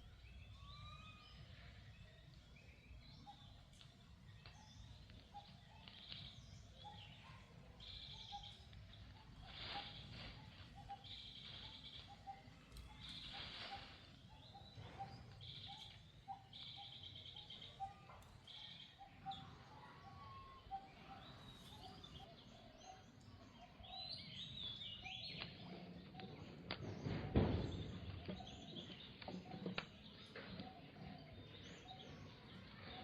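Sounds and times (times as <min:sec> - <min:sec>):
birds chirping and trilling: 0:00.0 - 0:33.0.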